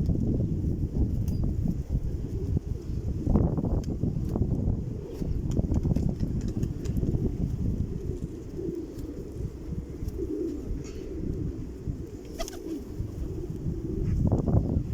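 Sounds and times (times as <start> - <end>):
pigeons cooing: 1.0 - 14.9.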